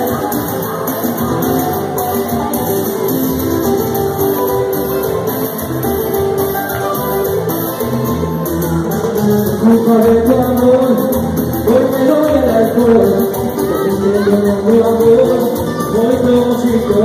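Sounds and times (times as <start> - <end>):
electric guitar: 0.0 - 17.0
percussion: 0.0 - 17.0
person singing: 0.0 - 17.0.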